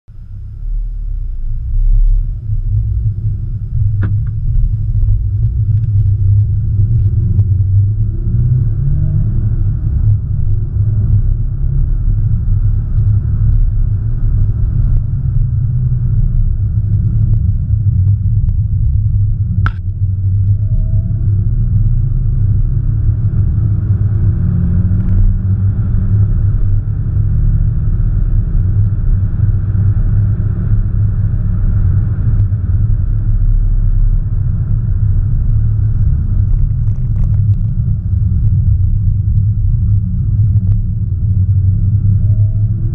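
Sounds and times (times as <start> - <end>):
engine and road noise: 0.0 - 42.9.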